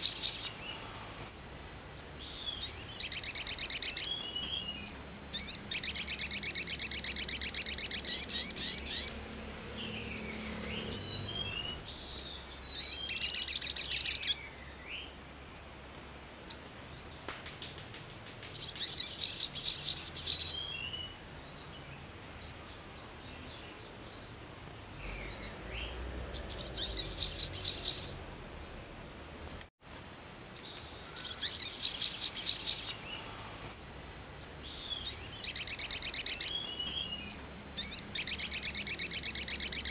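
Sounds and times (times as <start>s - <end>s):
bird singing high trills: 0.0s - 0.8s, 1.7s - 15.2s, 18.5s - 29.0s, 30.6s - 33.3s, 34.4s - 39.9s.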